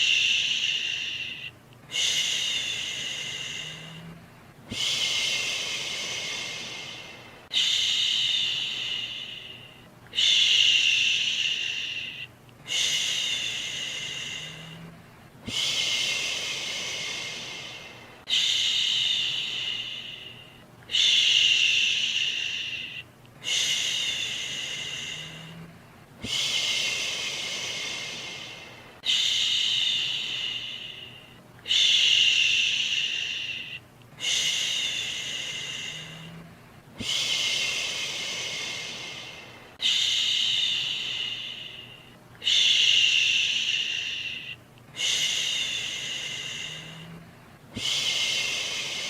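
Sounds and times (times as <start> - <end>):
person shushing: 0.0 - 49.0.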